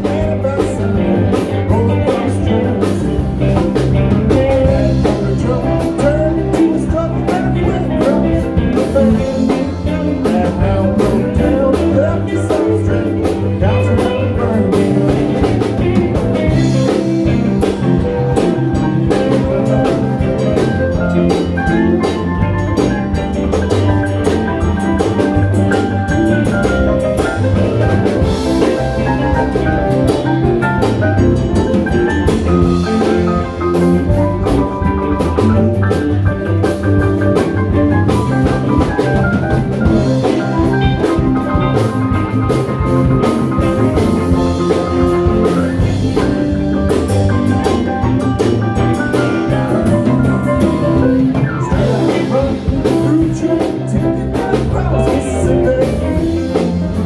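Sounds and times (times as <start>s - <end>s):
ragtime band playing: 0.0s - 57.0s.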